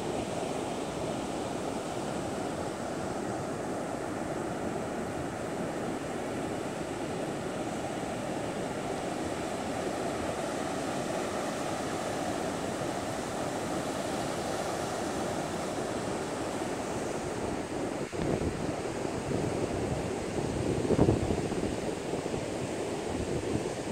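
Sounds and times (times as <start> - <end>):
storm surf breaking on beach: 0.0 - 23.9.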